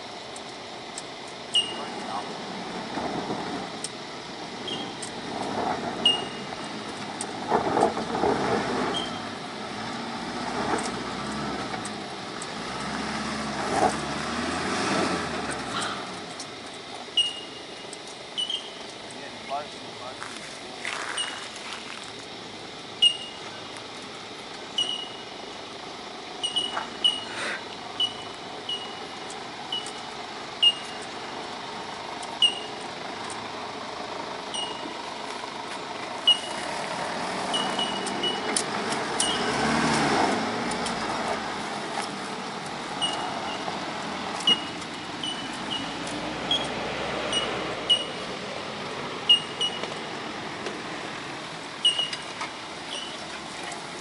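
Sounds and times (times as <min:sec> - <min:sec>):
truck engine climbing a hill: 0:00.0 - 0:54.0.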